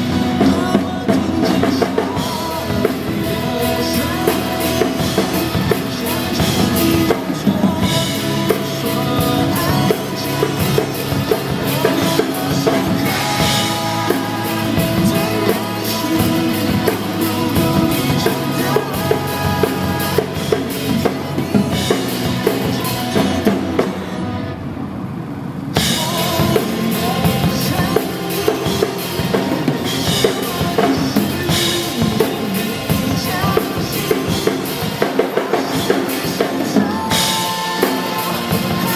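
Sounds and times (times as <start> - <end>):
acoustic drum kit playing: 0.0 - 24.5, 25.7 - 38.9
pop backing track: 0.0 - 24.6, 25.8 - 38.9.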